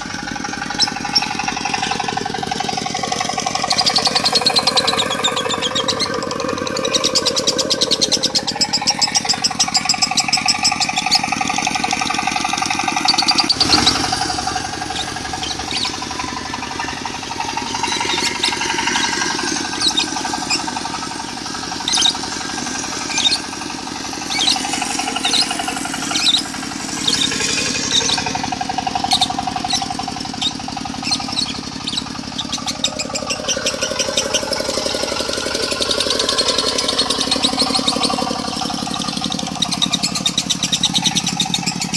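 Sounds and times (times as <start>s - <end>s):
bird chattering song: 0.0s - 41.9s
diesel engine running: 0.0s - 41.9s.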